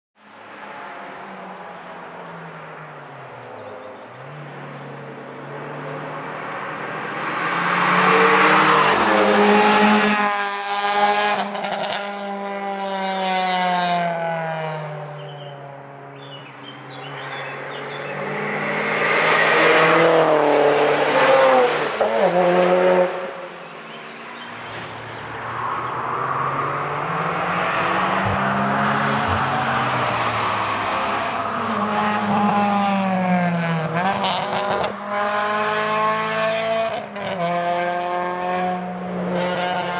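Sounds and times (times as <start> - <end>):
race cars passing at speed: 0.2 - 39.9.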